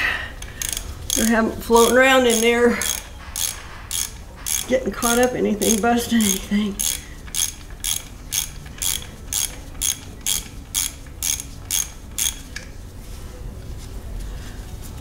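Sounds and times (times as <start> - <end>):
socket ratchet clicking: 0.4 - 12.7.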